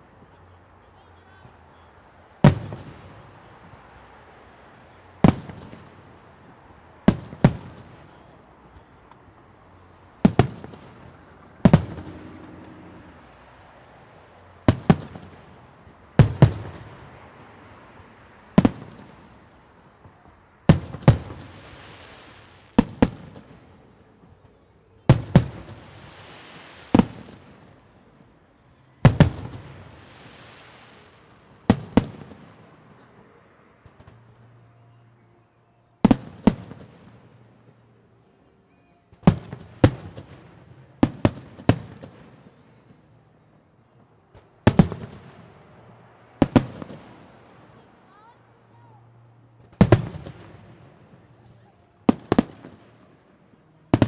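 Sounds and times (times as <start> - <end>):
fireworks crackling hiss: 0.0 - 34.6, 39.1 - 54.0
fireworks bursting with bangs: 1.1 - 34.6, 36.0 - 37.8, 39.1 - 54.0.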